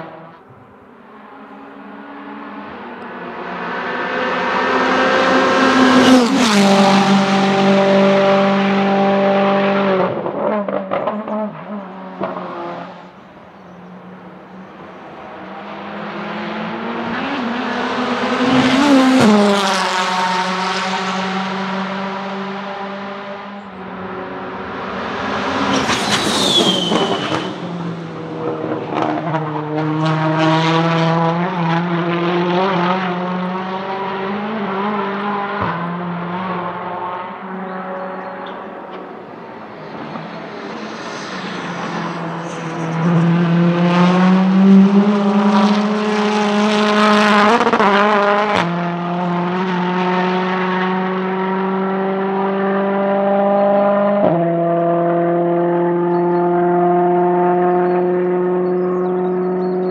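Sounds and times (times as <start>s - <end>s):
race cars accelerating past: 0.0s - 59.9s.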